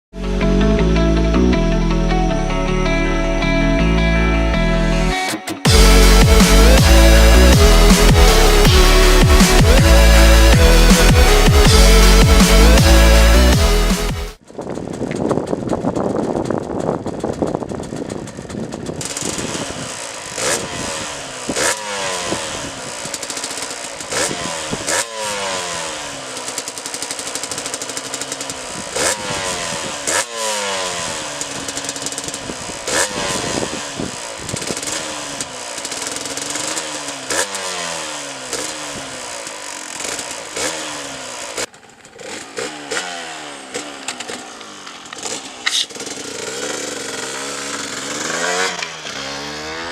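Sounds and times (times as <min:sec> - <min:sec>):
two-stroke motorcycle revving: 0:00.1 - 0:49.9
exhaust cracks: 0:05.6 - 0:49.9.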